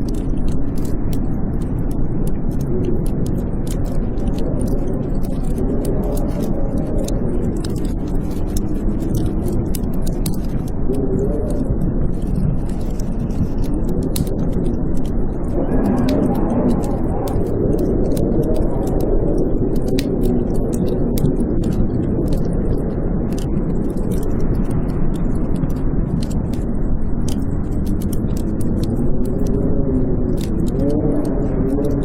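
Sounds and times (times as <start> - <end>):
blizzard wind howling: 0.0 - 32.0
wood fire crackling: 0.0 - 32.0.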